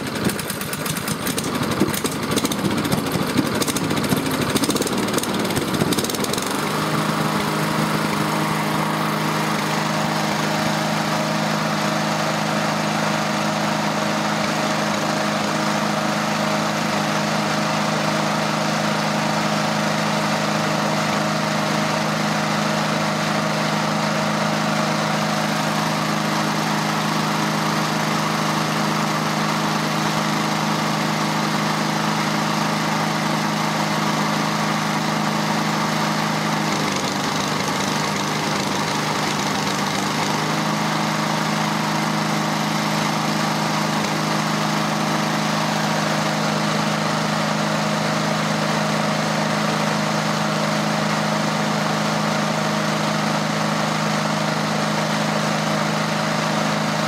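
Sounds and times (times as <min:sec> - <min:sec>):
lawn mower engine idling: 0:00.0 - 0:57.0.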